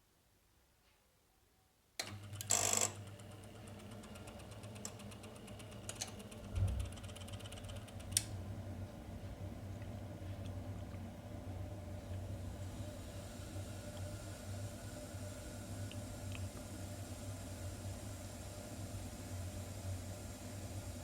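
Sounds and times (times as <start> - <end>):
boiler grinding buzz: 2.2 - 21.0.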